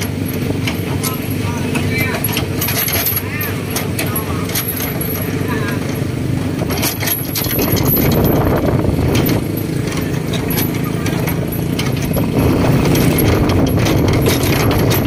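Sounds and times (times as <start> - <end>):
cargo bed rattling: 0.0 - 15.0
truck engine running: 0.0 - 15.0.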